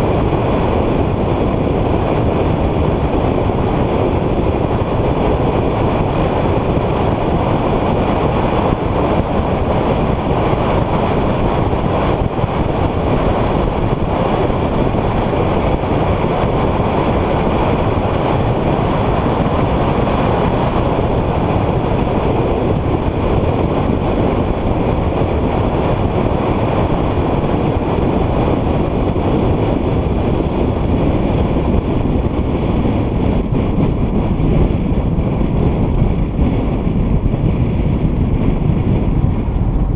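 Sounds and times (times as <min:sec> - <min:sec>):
car wind and road noise: 0:00.0 - 0:39.9.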